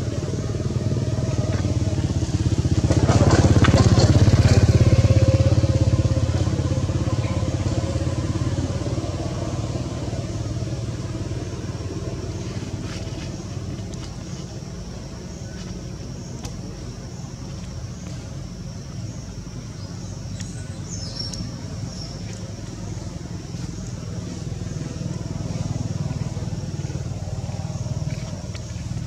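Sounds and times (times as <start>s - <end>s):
small engine throbbing: 0.0s - 29.0s.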